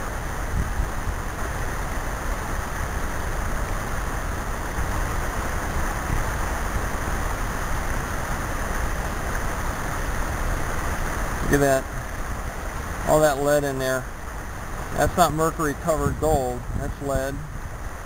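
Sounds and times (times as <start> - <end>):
creek water flowing over rocks: 0.0 - 18.0.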